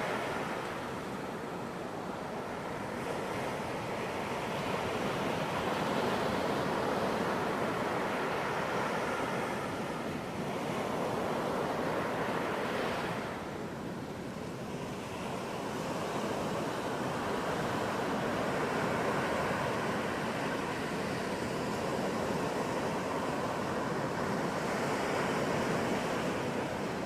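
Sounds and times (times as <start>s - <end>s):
ocean surf breaking waves: 0.0s - 27.0s.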